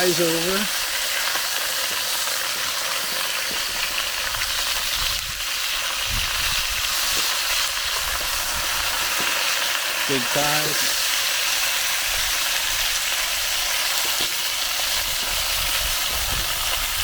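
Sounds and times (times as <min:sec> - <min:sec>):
chicken sizzling in grease: 0:00.0 - 0:17.0.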